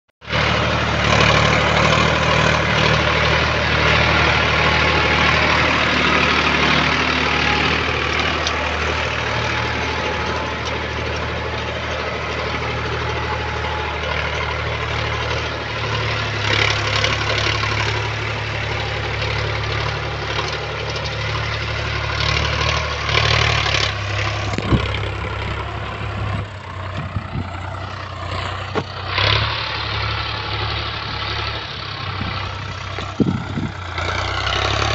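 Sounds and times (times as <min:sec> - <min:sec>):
tractor diesel engine under load: 0:00.2 - 0:34.9.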